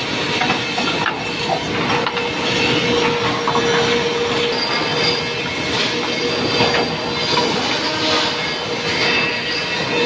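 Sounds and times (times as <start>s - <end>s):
planer machine whining: 0.0s - 10.0s.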